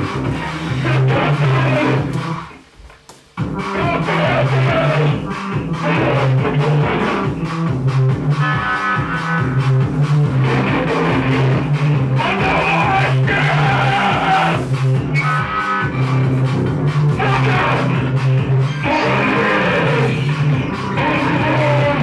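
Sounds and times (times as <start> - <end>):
loud noise music: 0.0 - 22.0.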